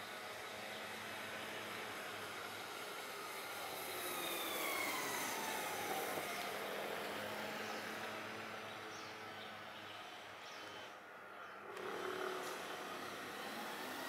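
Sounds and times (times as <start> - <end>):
vehicle passing by whine: 0.0 - 10.8, 11.7 - 14.0.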